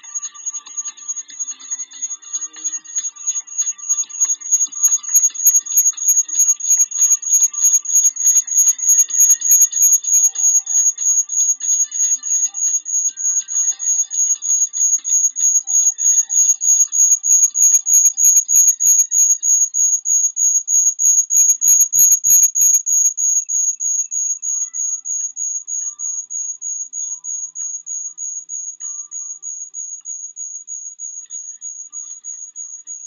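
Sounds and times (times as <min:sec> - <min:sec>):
high-pitched electronic beeping: 0:00.0 - 0:33.0.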